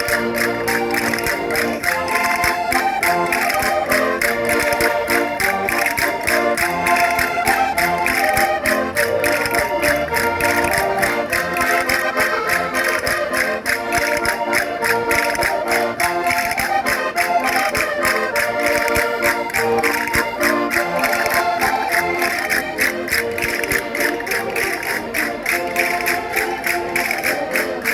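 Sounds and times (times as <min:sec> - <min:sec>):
concertinas playing dance tune: 0:00.0 - 0:27.9
steady clicking beat: 0:00.0 - 0:27.9.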